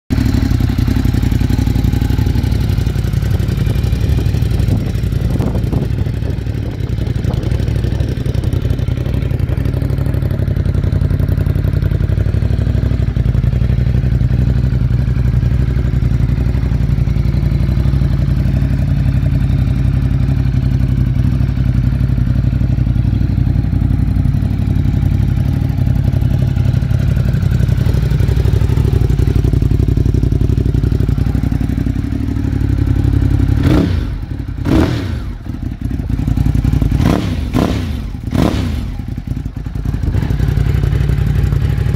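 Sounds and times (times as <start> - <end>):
motorcycle engine idling: 0.1 - 41.9.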